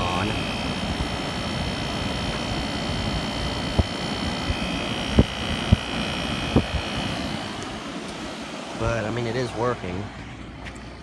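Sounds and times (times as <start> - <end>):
high whining tones: 0.0 - 9.5
air conditioner running: 0.0 - 11.0.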